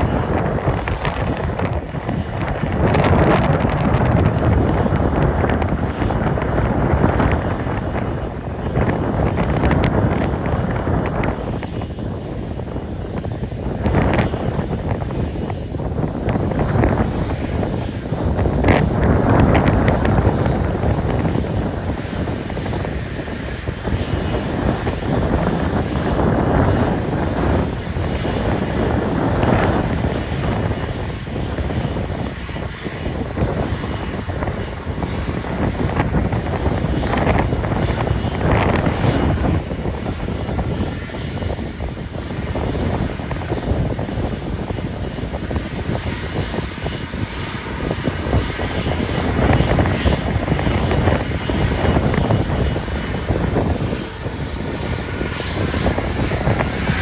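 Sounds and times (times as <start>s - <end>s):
jet engines running: 0.0s - 57.0s
wind buffeting microphone: 0.0s - 57.0s.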